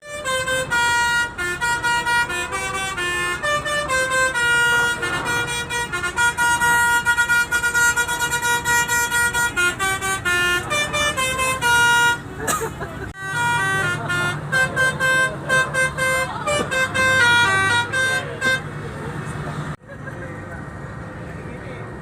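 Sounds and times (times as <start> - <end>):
musical bus air horn: 0.0 - 19.0.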